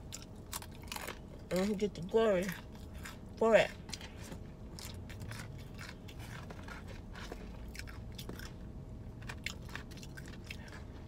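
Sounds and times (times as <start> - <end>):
chewing crunchy fried batter: 0.0 - 11.0.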